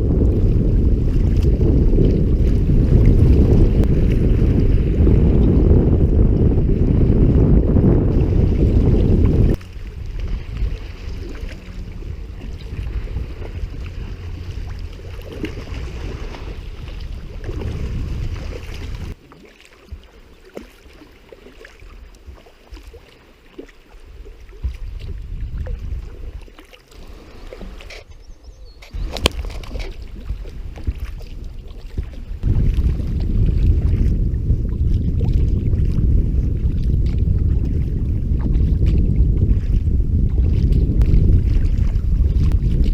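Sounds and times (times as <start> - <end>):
wind buffeting the microphone: 0.0 - 19.2, 24.1 - 42.9
paddle sounds: 0.0 - 42.9
water sounds: 0.0 - 42.9.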